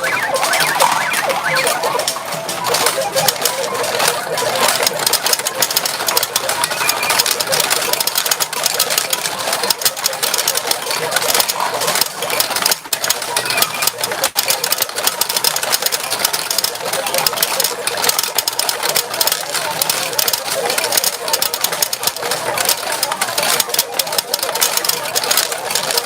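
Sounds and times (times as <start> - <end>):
steel balls clattering: 0.0 - 26.0.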